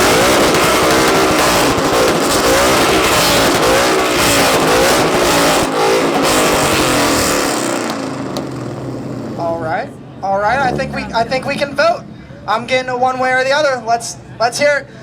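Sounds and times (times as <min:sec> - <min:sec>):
car engines revving: 0:00.0 - 0:12.7.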